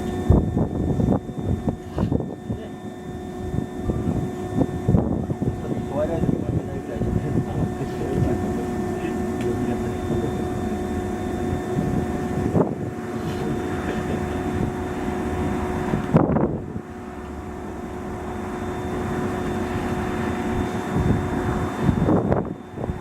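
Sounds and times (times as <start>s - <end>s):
train rumble inside carriage: 0.0s - 2.7s, 3.8s - 23.0s
steady tonal hum: 0.0s - 23.0s.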